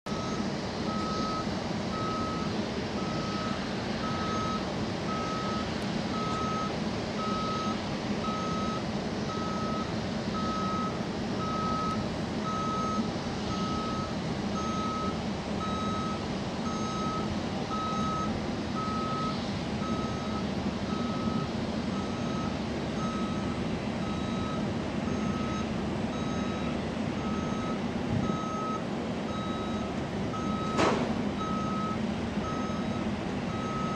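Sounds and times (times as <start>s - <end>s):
engine drone: 0.1s - 33.9s
reversing alarm beeping: 0.1s - 33.9s.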